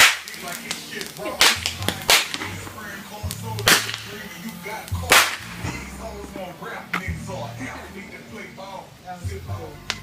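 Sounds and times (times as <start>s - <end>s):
fireworks cracking: 0.0s - 10.0s.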